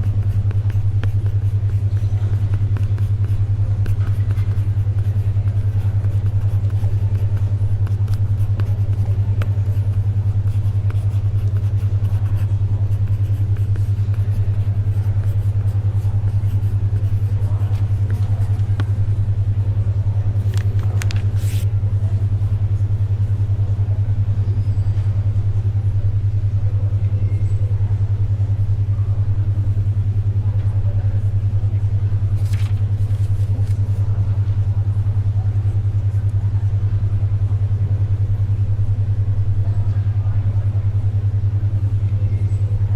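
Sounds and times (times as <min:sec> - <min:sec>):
low pulsing hum: 0:00.0 - 0:42.9.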